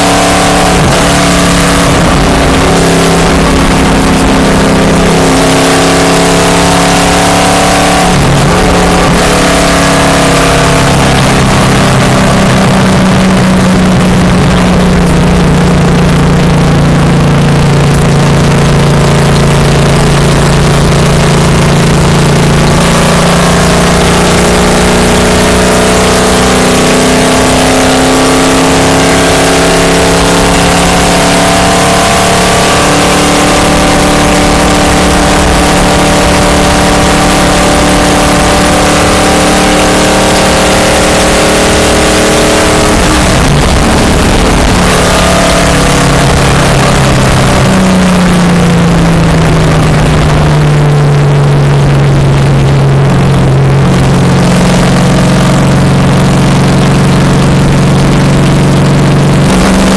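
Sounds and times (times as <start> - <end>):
car engine running hard: 0.0 - 59.9
wind and road noise: 0.0 - 59.9.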